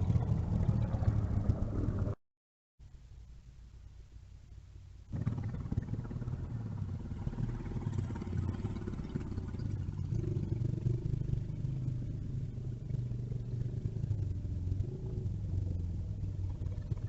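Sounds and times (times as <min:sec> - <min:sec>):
vehicle engine running: 0:00.0 - 0:02.2, 0:05.1 - 0:17.0.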